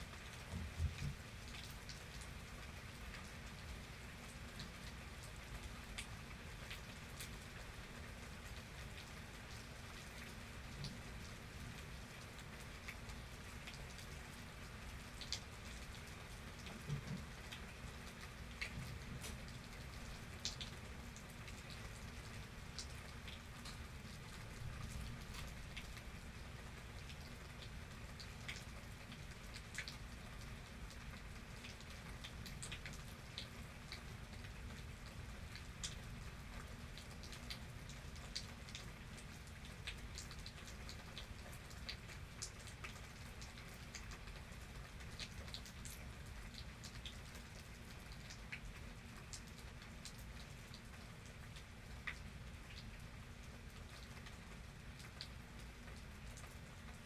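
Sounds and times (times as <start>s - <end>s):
low rumble of downpour: 0.0s - 57.0s
raindrops ticking on a surface: 0.0s - 57.0s.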